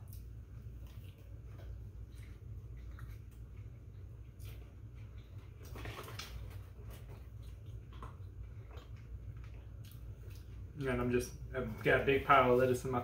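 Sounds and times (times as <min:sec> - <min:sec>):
people chewing: 0:00.0 - 0:11.1
low hum: 0:00.0 - 0:13.0.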